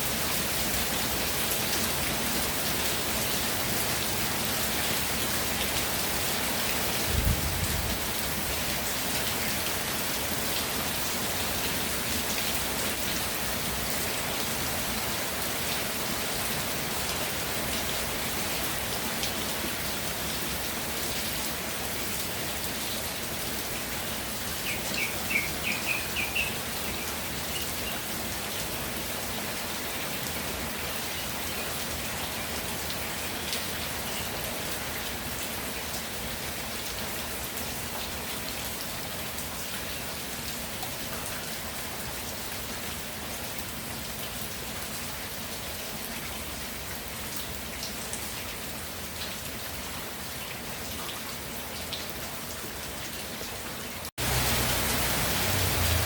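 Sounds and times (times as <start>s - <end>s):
rain pattering on ground: 0.0s - 56.0s.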